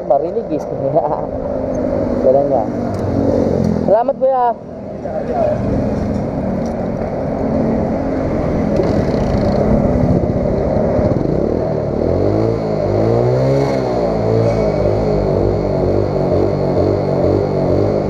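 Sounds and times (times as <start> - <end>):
motorcycle engine revving: 1.3 - 18.0.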